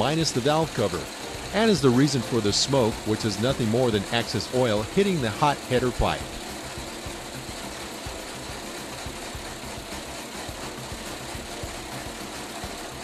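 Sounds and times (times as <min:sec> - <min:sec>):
engine running: 0:00.0 - 0:13.0
rapid uneven valve ticking: 0:00.0 - 0:13.0.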